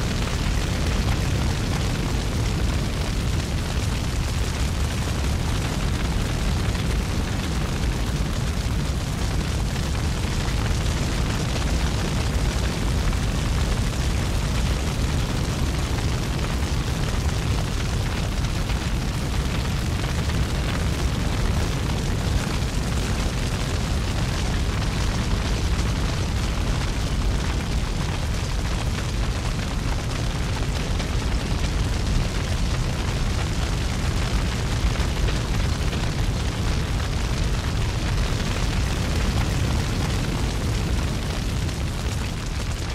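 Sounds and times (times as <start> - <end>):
wildfire roaring: 0.0 - 42.9.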